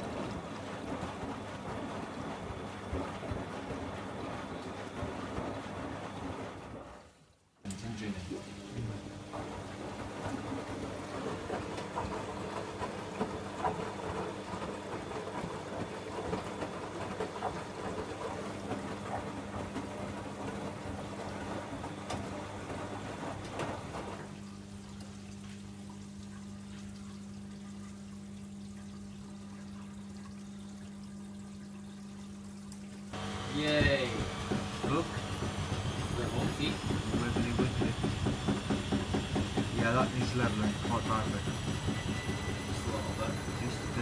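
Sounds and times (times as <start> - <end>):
washing machine low hum: 0.0 - 44.0
water sloshing in washing machine: 0.0 - 44.0.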